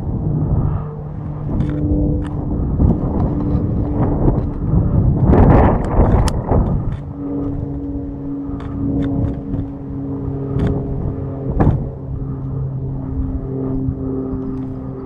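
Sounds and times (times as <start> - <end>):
steady engine hum: 0.0 - 15.0.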